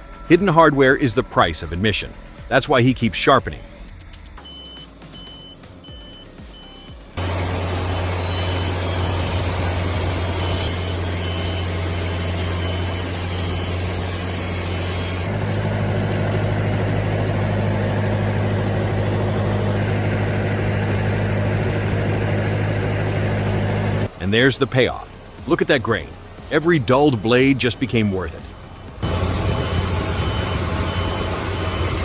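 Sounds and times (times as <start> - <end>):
saw mill cutting log: 4.4 - 32.0.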